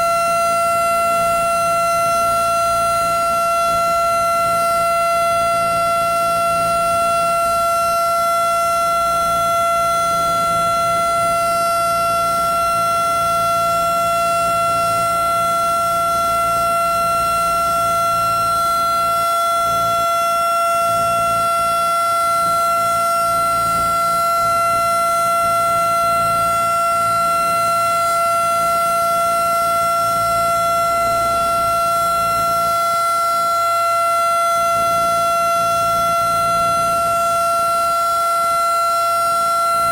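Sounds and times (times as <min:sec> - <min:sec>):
steady warning siren: 0:00.0 - 0:39.9.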